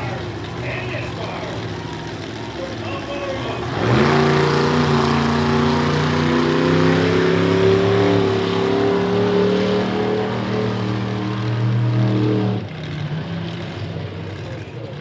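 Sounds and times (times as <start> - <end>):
monster truck engine running: 0.0 - 15.0.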